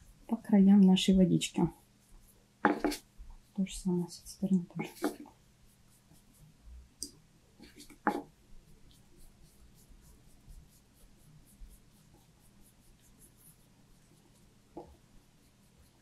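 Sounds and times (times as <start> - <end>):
paintbrush scratching on paper: 0.0 - 6.7, 7.6 - 16.0.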